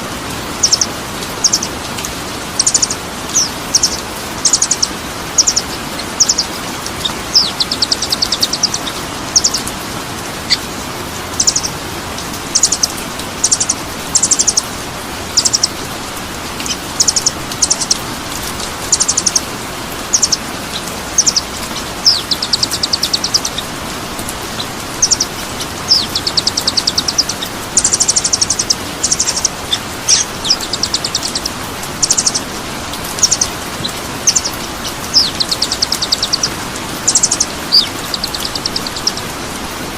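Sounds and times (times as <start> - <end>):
songbird trilling: 0.6 - 1.8, 2.6 - 9.7, 11.3 - 11.8, 12.4 - 14.7, 15.3 - 15.9, 16.6 - 39.3.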